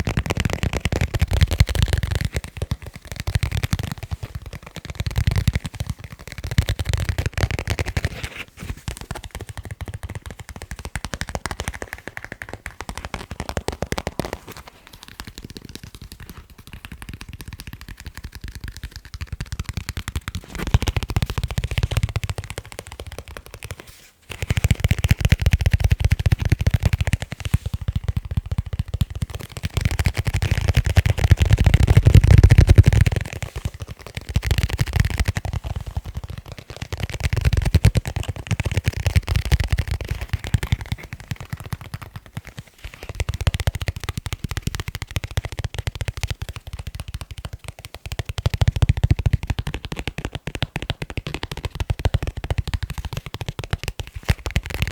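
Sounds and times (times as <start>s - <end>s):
fingers tapping on leather: 0.0s - 54.9s.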